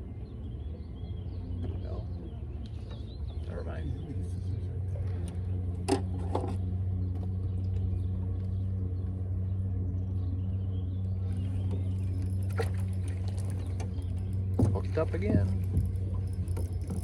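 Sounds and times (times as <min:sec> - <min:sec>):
motor humming: 0:00.3 - 0:17.0.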